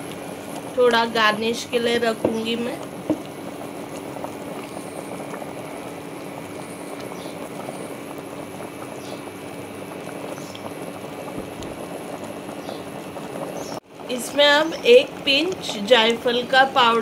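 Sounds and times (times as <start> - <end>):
pudding bubbling in a pan: 0.0 - 17.0.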